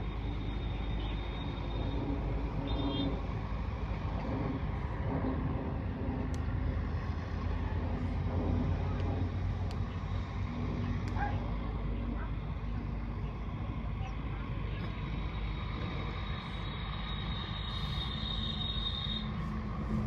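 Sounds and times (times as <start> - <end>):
low motor rumble: 0.0 - 20.0.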